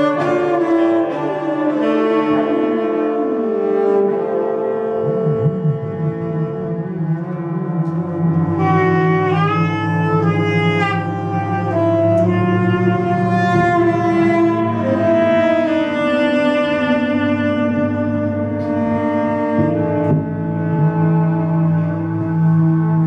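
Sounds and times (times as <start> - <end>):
bowed cello and double bass: 0.0 - 23.0
low drone: 0.0 - 23.0
saxophone held notes: 0.0 - 23.0.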